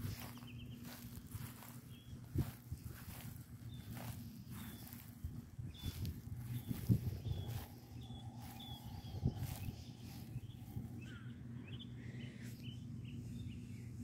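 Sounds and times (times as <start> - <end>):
low outdoor hum: 0.0 - 14.0
small birds chirping: 0.0 - 14.0.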